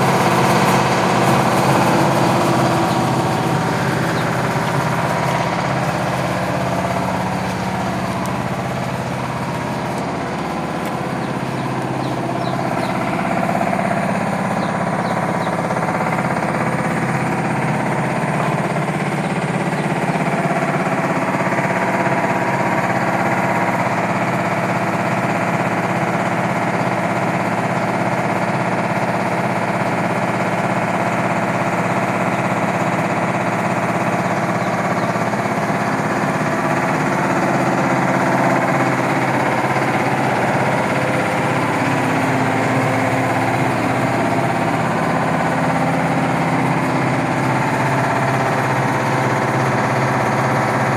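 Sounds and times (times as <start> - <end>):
diesel engine running: 0.0 - 50.9
rush of milling machinery: 0.0 - 50.9.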